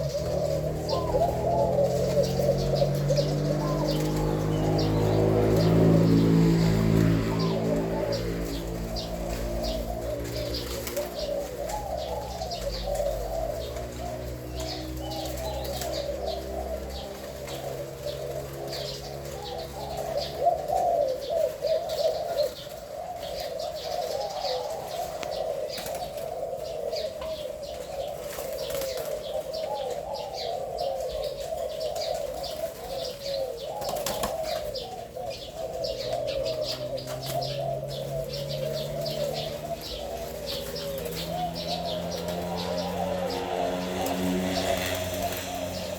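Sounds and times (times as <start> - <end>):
dove cooing: 0.0 - 45.9
small birds chirping: 0.0 - 45.9.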